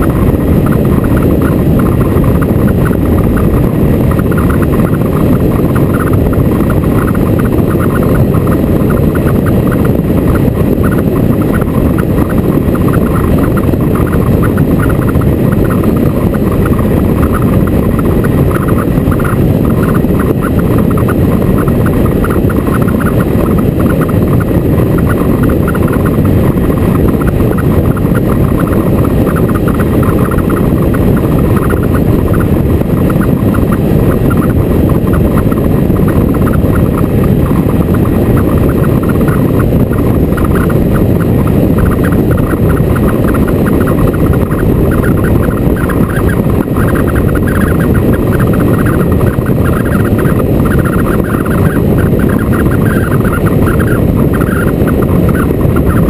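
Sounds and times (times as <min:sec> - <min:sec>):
motorcycle wind and road noise: 0:00.0 - 0:56.0.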